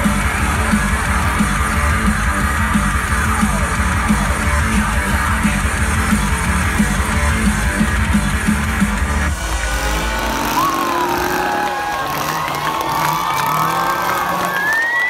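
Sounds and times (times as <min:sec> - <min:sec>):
rock music with electric guitar: 0:00.0 - 0:12.2.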